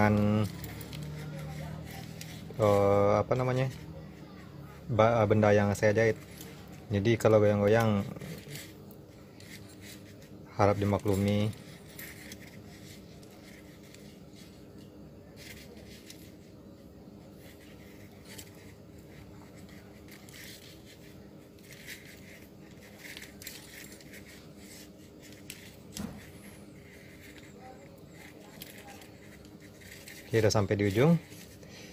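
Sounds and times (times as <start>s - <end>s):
steady low hum: 0.0s - 31.9s
thread rustling and scraping: 0.0s - 31.9s.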